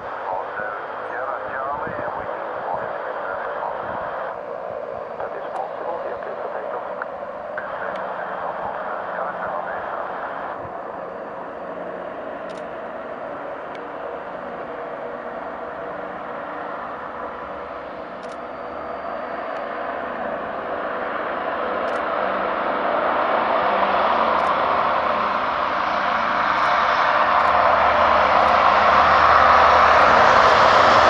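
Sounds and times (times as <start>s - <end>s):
propeller airliner engines droning: 0.0s - 31.0s.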